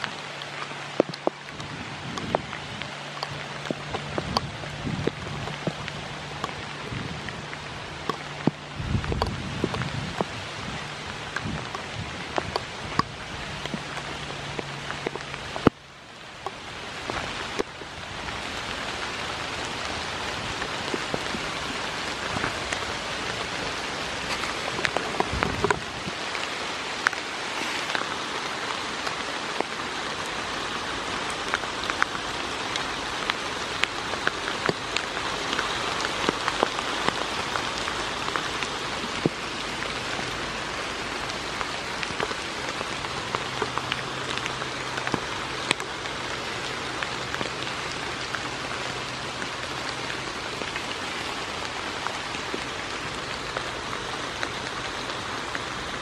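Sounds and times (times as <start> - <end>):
raindrops ticking close by: 0.0 - 56.0
steady rain falling: 0.0 - 56.0.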